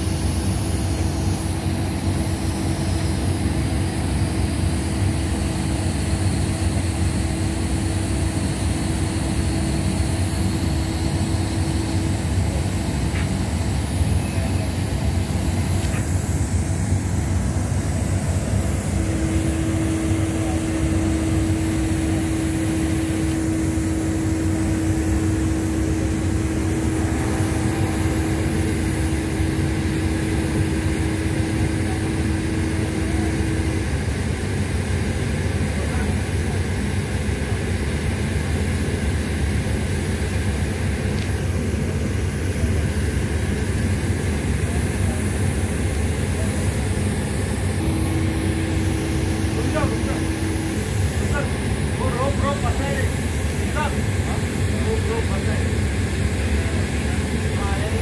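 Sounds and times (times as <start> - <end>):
mid-pitched hum: 0.0 - 58.0
ship machinery rumble: 0.0 - 58.0.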